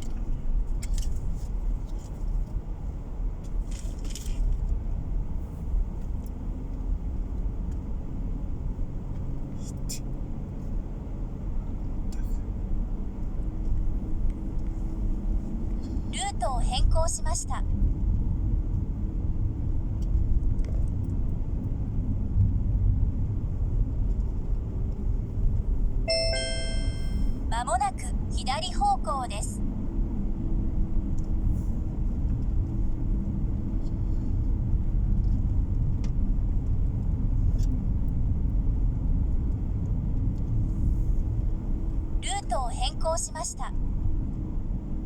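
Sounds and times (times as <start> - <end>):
car engine and tyres rumbling: 0.0 - 26.0, 29.6 - 42.3, 43.6 - 45.0.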